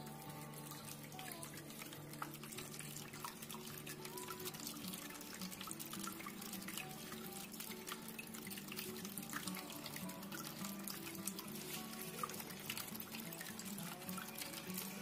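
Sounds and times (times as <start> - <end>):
fountain water trickling: 0.0 - 15.0.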